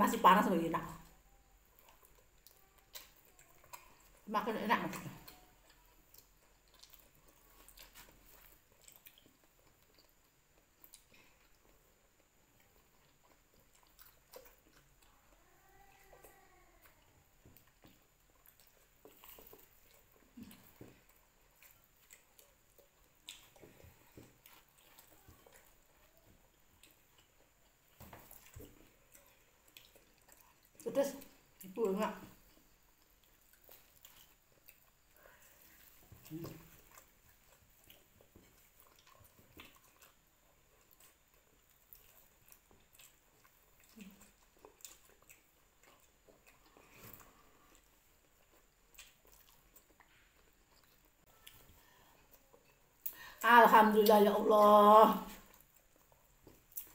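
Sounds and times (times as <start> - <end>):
faint chewing: 0.1 - 56.9.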